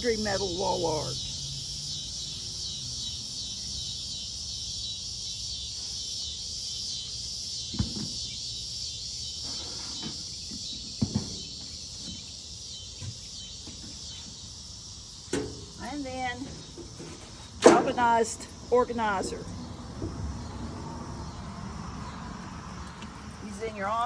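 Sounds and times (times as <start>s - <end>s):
cicadas chorus: 0.0s - 24.0s.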